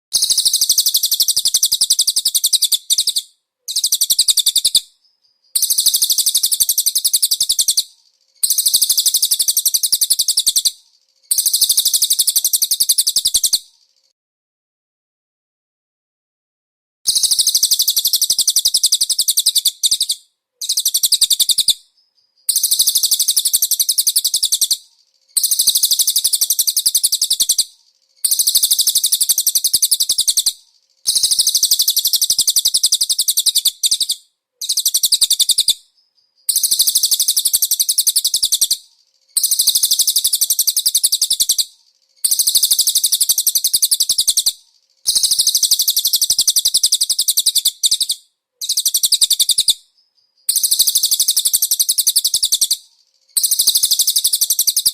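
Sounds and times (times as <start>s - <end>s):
songbird rapid high-pitched trill: 0.2s - 14.1s, 17.1s - 54.9s.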